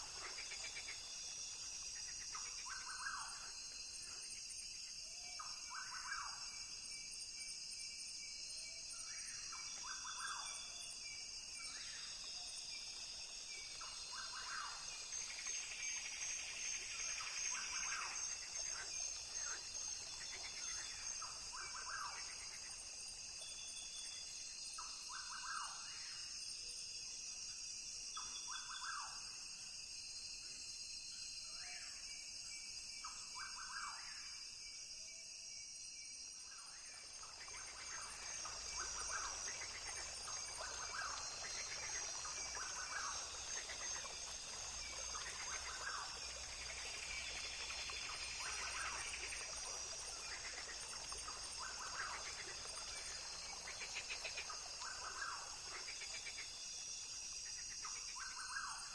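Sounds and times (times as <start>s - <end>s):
insects buzzing and trilling: 0.0s - 58.9s.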